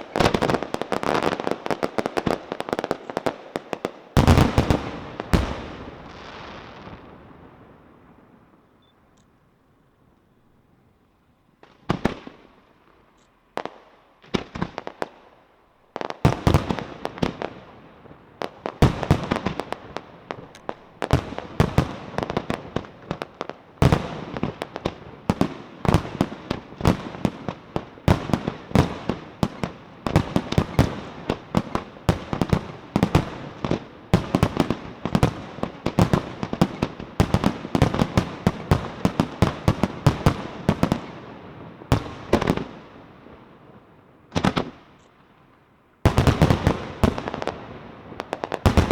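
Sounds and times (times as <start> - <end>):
fireworks exploding: 0.0 - 9.2, 11.6 - 48.9.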